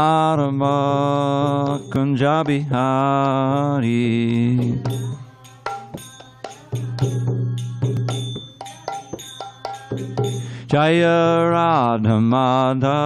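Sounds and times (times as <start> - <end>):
person singing a mantra: 0.0 - 13.0.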